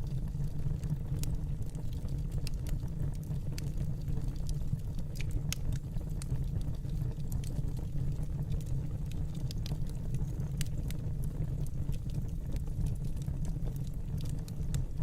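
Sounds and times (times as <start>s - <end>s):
fire pops and snaps: 0.0s - 15.0s
wood fire rumble: 0.0s - 15.0s.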